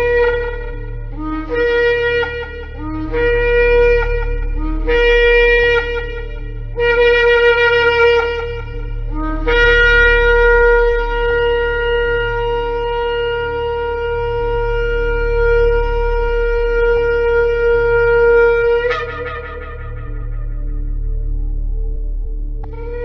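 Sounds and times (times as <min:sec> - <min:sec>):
shofar blasts: 0:00.0 - 0:21.4
steady low hum: 0:00.0 - 0:23.0.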